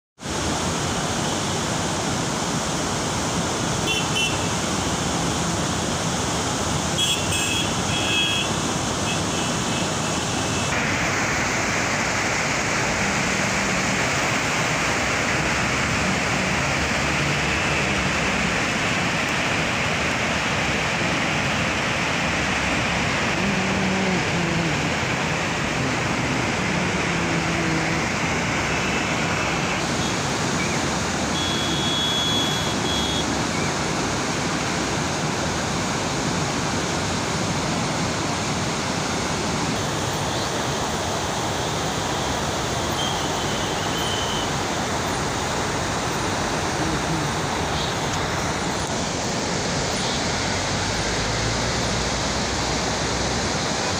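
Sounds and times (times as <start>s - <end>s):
fast-flowing river roaring: 0.2s - 53.9s.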